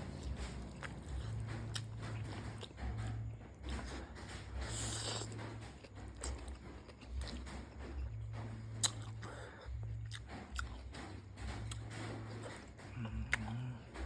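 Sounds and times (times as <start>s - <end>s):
person chewing noodle soup: 0.0s - 14.0s.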